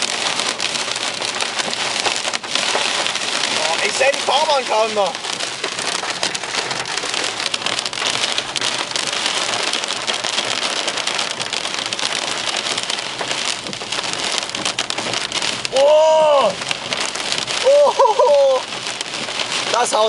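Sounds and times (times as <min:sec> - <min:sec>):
rain and hail on car roof: 0:00.0 - 0:20.0.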